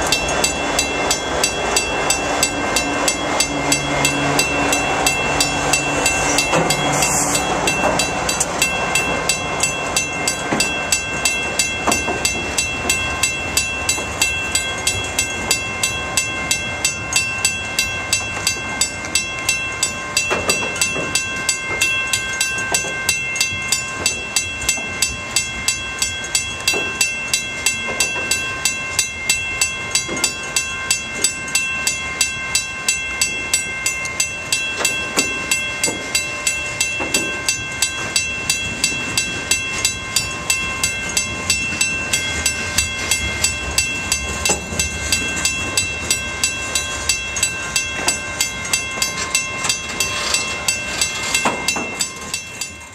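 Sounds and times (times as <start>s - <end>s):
freight train rolling rumble: 0.0s - 52.9s
high-pitched ringing tones: 0.0s - 52.9s
train wheels clickety-clack: 0.0s - 52.9s.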